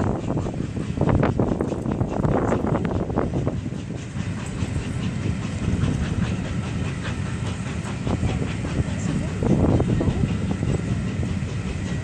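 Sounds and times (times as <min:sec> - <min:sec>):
train coaches rumbling past: 0:00.0 - 0:12.0
wheels clicking over rails: 0:00.0 - 0:12.0.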